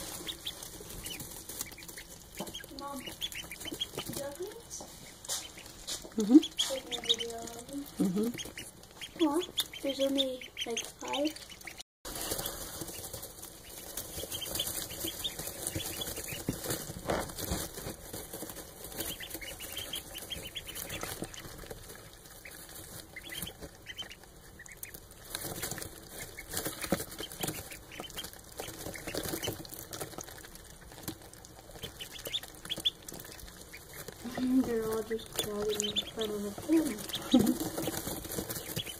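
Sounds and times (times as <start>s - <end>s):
ducklings peeping: 0.0s - 38.9s
rustling in straw: 0.0s - 38.9s.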